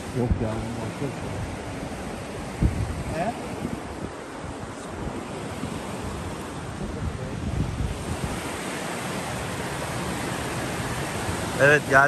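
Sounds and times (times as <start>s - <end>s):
creek flowing: 0.0s - 12.0s
waterfall rushing: 0.0s - 12.0s
wind buffeting microphone: 0.0s - 12.0s.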